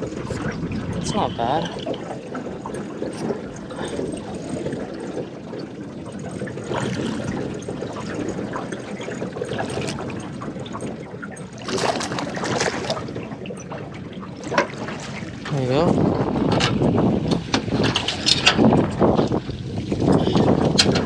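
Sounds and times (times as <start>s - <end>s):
water trickling spatters: 0.0s - 17.0s
water sloshing and splashing: 0.0s - 21.0s.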